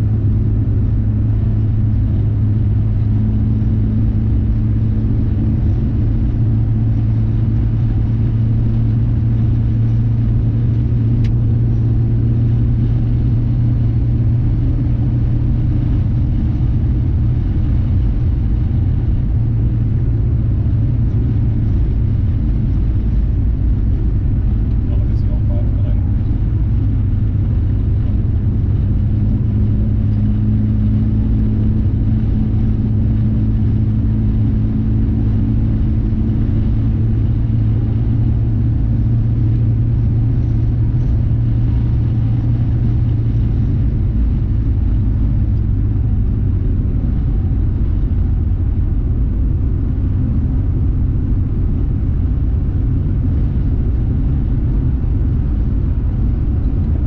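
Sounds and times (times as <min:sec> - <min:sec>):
engine and tyre rumble: 0:00.0 - 0:57.0
steady hum: 0:00.0 - 0:57.0.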